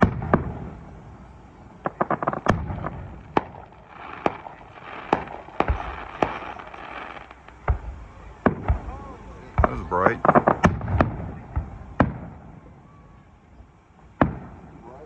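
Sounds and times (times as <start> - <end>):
fireworks bangs: 0.0 - 12.9, 14.1 - 15.0
fireworks crackling: 0.0 - 15.0.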